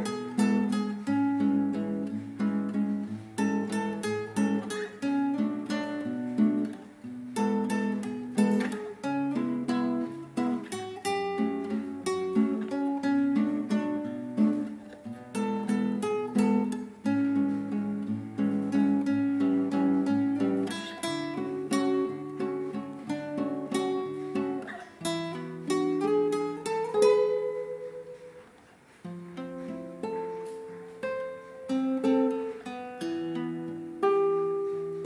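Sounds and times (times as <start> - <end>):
acoustic guitar plucking and strumming: 0.0 - 35.0.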